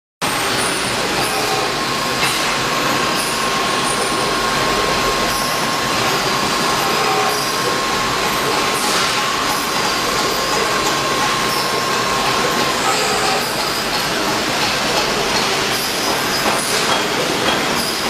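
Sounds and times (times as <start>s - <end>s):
high machine whine: 0.2s - 18.0s
milling machine running: 0.2s - 18.0s.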